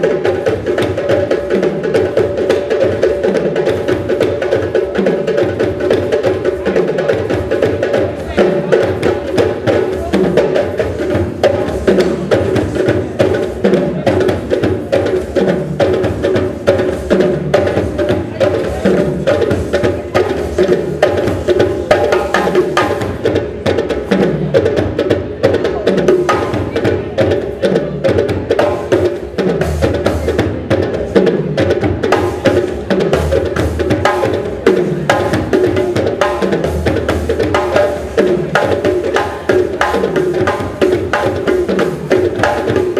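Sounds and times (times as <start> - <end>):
drums: 0.0 - 42.9.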